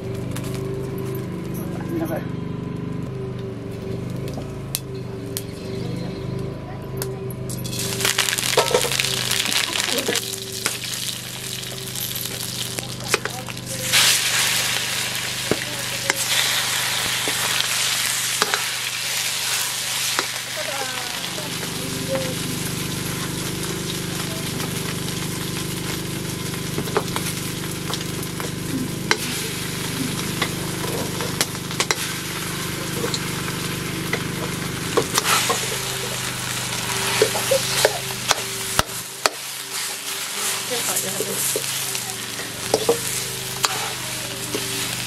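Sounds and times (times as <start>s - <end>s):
food sizzling in a pan: 7.6s - 45.0s.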